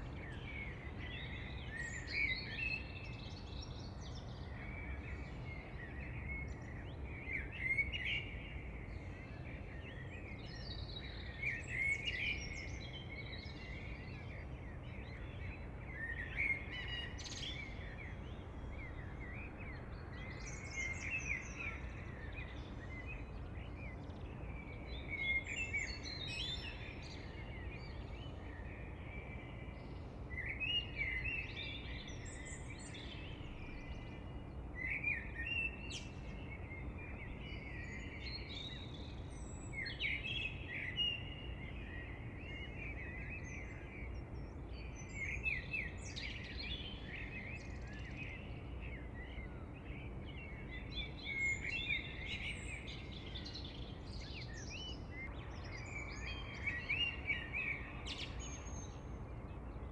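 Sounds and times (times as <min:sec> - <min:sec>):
birds chirping and warbling: 0:00.0 - 0:59.9
low background hiss: 0:00.0 - 0:59.9.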